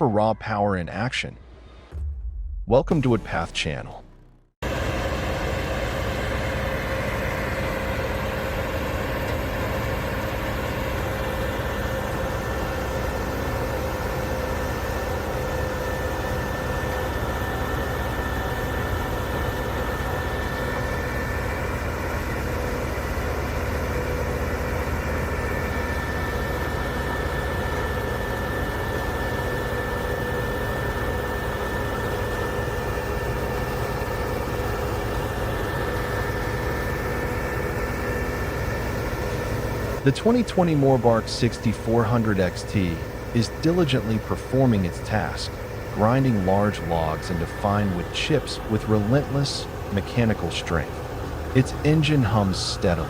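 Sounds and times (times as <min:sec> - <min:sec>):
diesel engine droning: 0:01.5 - 0:53.0
thin steady whine: 0:02.8 - 0:53.0.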